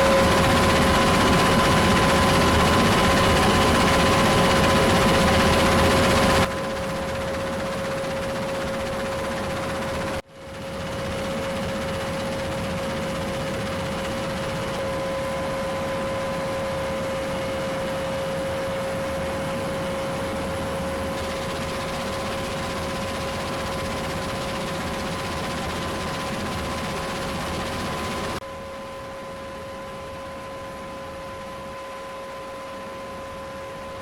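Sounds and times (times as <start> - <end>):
military aircraft engines roaring: 0.0 - 28.4
constant engine whine: 0.0 - 34.0.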